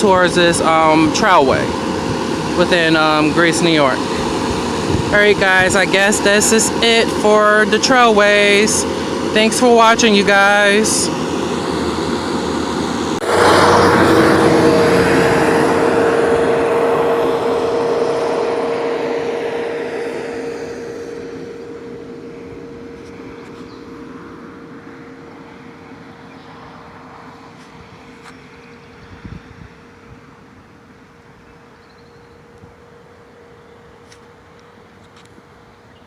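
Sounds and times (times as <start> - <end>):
engine humming: 0.0 - 36.0.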